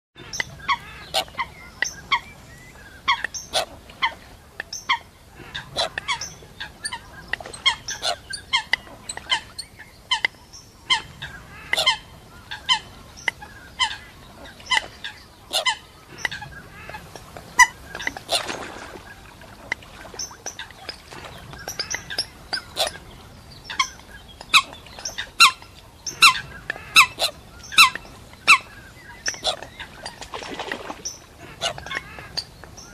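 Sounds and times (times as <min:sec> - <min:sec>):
water hens calling: 0:00.2 - 0:32.9.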